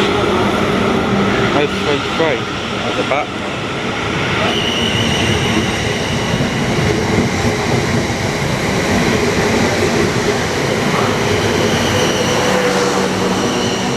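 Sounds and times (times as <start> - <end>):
train wheels rolling on track: 0.0 - 13.9.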